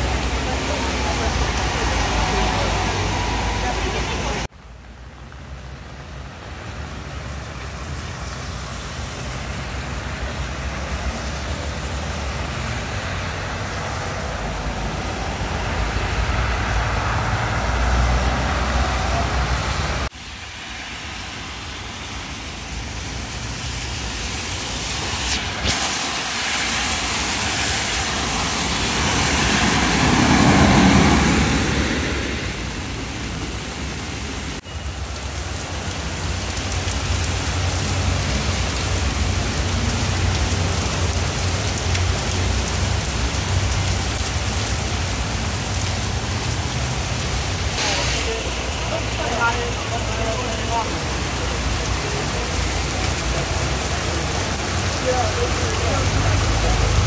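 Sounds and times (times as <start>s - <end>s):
tyres hissing on wet road: 0.0s - 57.0s
vehicle engines rumbling: 0.0s - 57.0s.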